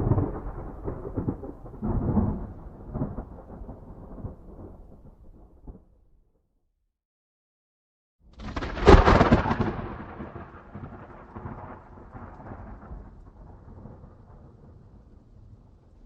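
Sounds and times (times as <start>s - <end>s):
thunder clap with rumble: 0.0s - 6.0s, 8.3s - 16.0s.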